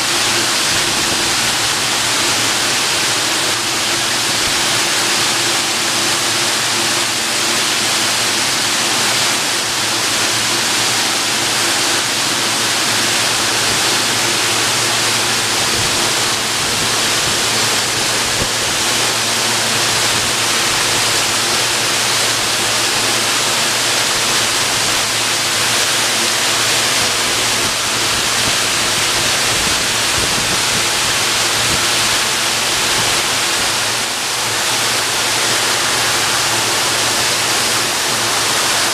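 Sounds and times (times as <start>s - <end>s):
high-pressure water spray hissing: 0.0s - 38.9s.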